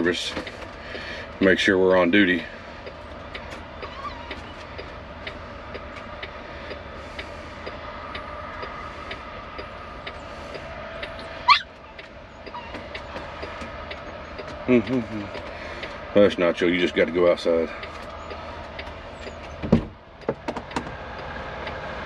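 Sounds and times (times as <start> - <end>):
steady cab hum: 0.0 - 22.0.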